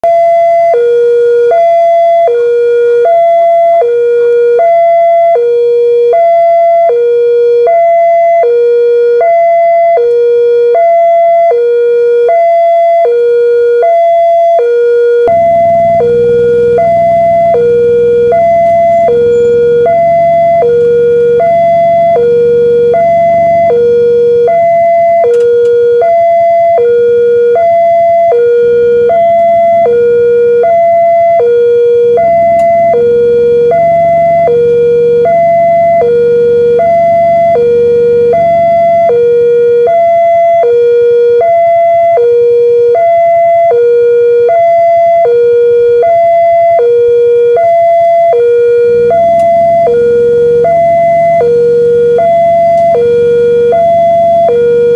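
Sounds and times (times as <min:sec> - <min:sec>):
level crossing two-tone alarm: 0:00.0 - 0:54.9.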